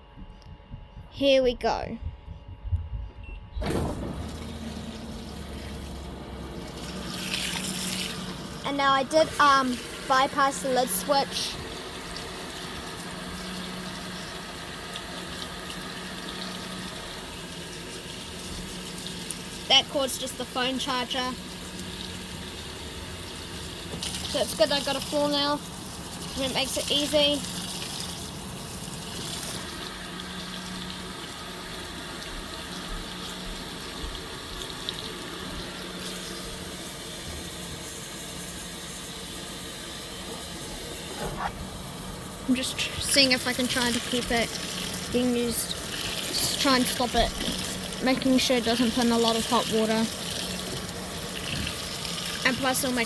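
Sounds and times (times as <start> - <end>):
water pouring into washing machine: 3.6 - 40.6, 42.2 - 53.0.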